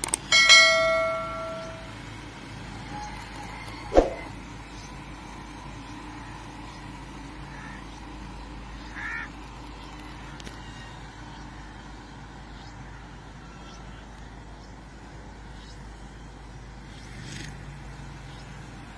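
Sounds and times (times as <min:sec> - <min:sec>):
street background hum: 0:00.0 - 0:18.9.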